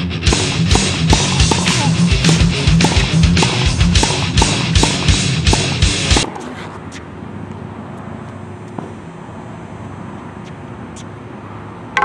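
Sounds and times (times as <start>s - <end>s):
city traffic background noise: 0.0s - 12.0s.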